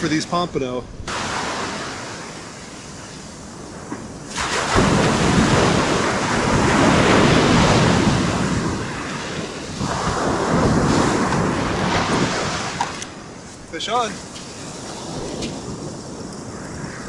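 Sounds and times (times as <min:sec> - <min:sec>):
ocean surf washing ashore: 0:00.0 - 0:17.0
wind on microphone: 0:00.0 - 0:17.0.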